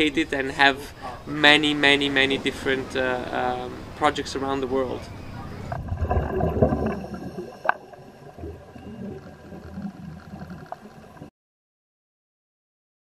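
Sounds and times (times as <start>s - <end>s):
muffled underwater rumbling: 0.8s - 11.3s.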